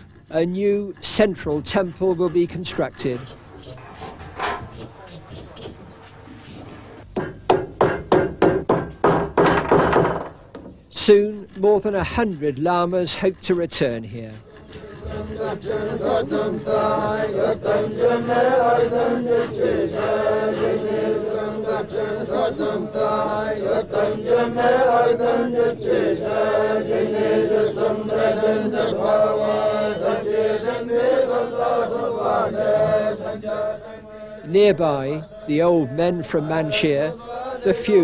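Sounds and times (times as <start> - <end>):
men chanting prayers: 0.0 - 5.9, 11.0 - 38.0.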